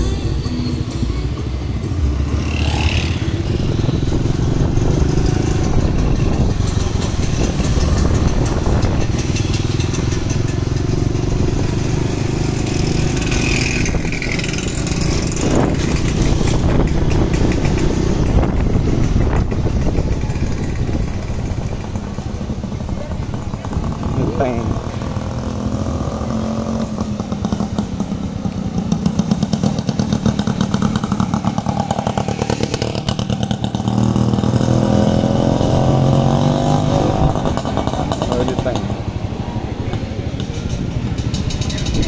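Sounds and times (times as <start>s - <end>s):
motorcycle engine rumbling: 0.0s - 42.0s.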